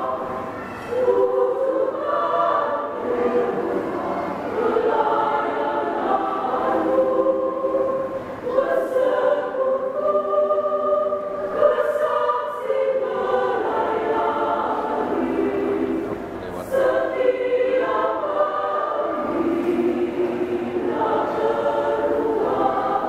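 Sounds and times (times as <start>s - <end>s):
women's choir singing a hymn: 0.0s - 23.0s.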